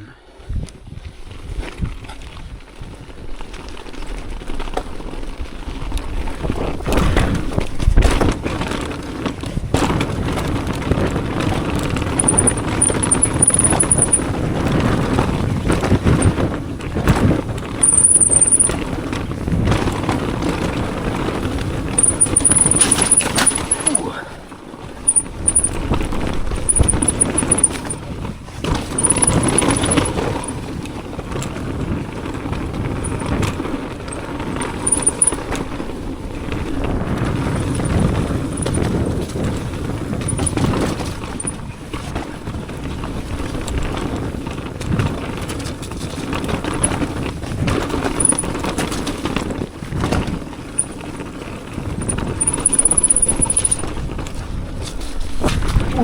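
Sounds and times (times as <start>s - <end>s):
tyres rolling over dirt and rocks: 0.9s - 56.0s
bike knocks and rattles: 1.4s - 24.2s, 24.8s - 56.0s.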